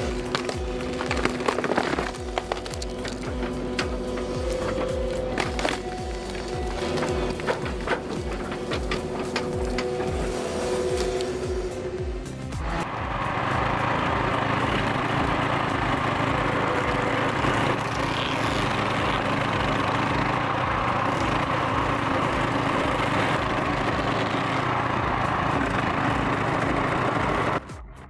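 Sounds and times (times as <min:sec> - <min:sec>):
engine running under load: 0:00.0 - 0:28.0.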